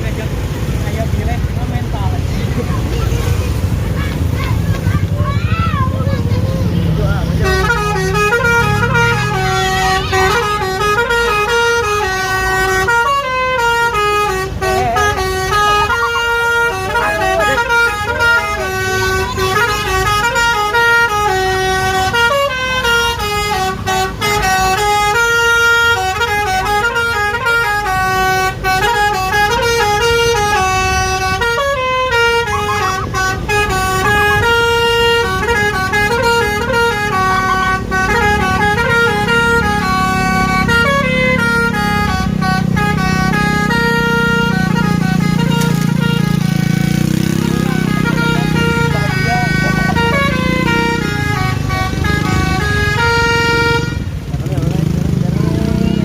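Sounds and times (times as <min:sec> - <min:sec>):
bus horn playing a melody: 0:07.2 - 0:56.0.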